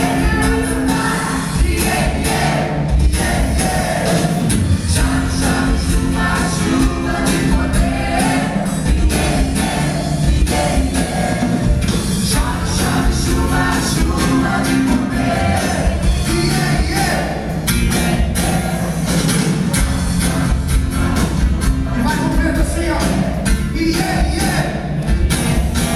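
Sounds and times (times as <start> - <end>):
singing over a band: 0.0 - 25.9
steady drum beat: 0.0 - 25.9.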